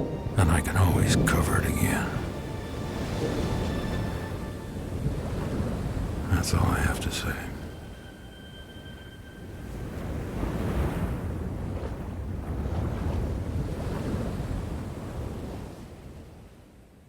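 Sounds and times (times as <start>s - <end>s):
ocean waves surging: 0.0s - 16.2s.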